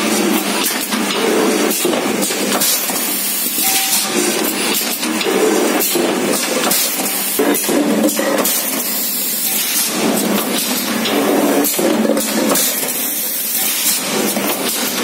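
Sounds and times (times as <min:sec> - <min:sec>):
machine clanking and knocking: 0:00.0 - 0:15.0.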